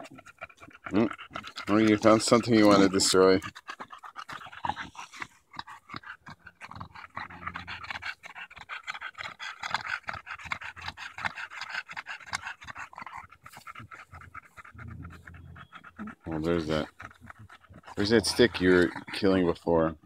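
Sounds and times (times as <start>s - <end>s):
dog panting heavily: 0.0s - 20.0s.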